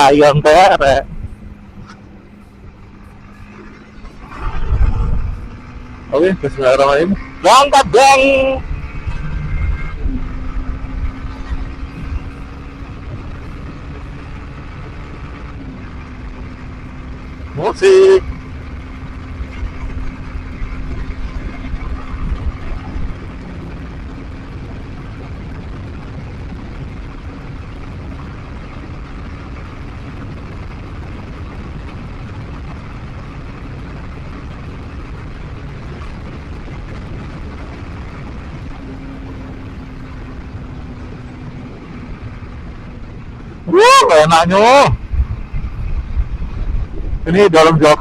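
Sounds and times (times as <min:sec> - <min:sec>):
motorcycle engine hum: 0:00.0 - 0:48.0
road rumble: 0:00.0 - 0:48.0
wind noise: 0:00.0 - 0:48.0.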